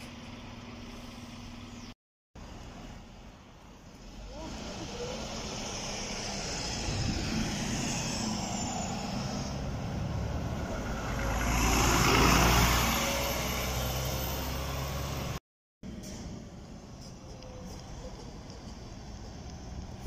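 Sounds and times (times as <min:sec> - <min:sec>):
bus engine passing: 0:02.4 - 0:20.0.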